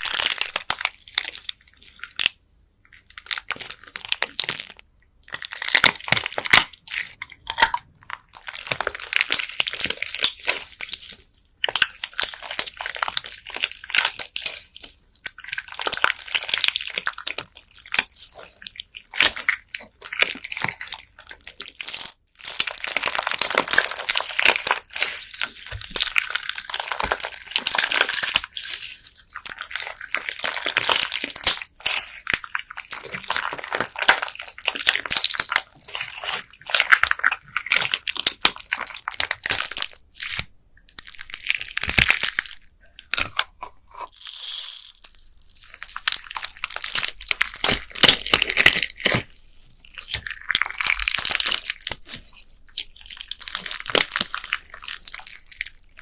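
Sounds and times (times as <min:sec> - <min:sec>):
crunchy slime crackling: 0:00.0 - 0:56.0.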